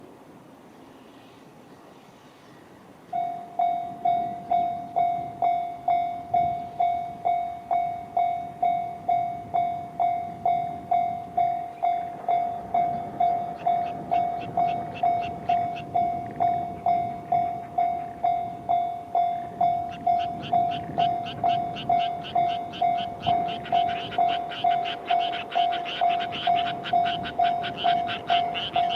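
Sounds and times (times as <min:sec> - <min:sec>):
level crossing electronic dinging: 0:03.2 - 0:28.9.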